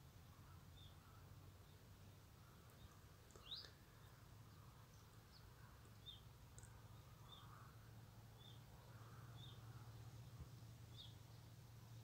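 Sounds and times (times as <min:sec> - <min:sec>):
faint bird chirps: 0:00.0 - 0:12.0
low steady background hum: 0:00.0 - 0:12.0.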